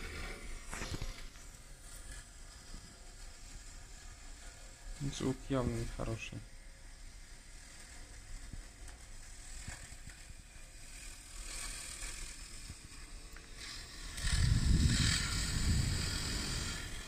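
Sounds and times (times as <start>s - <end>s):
rough cooling fan noise: 0.0s - 17.0s.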